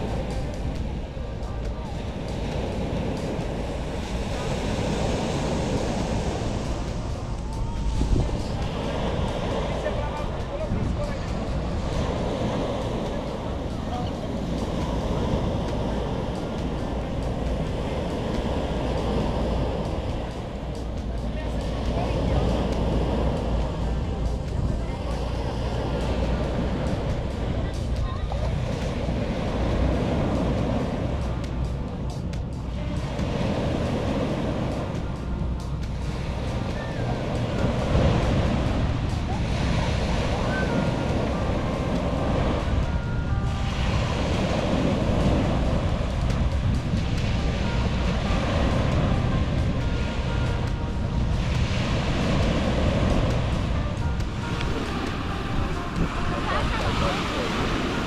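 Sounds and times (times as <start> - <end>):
sea surf: 0.0 - 58.0
wind rumbling on microphone: 0.0 - 58.0.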